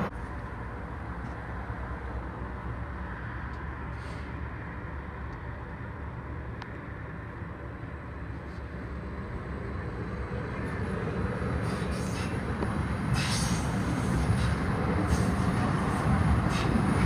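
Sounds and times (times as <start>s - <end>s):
light rail train approaching: 0.0s - 17.0s
low rumble of road traffic: 0.0s - 17.0s.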